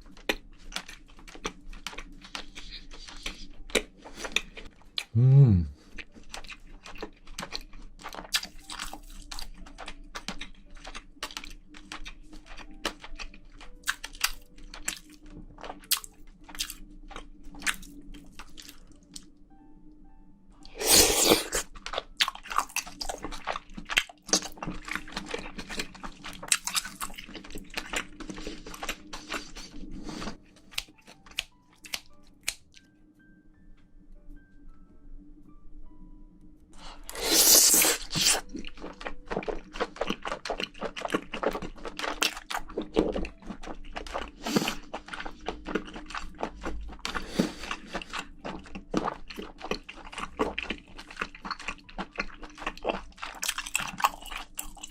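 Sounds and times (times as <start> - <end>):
chewing and crunching food: 0.0 - 5.2, 5.8 - 19.4, 20.6 - 32.9, 36.8 - 54.9
faint background music: 0.0 - 54.9.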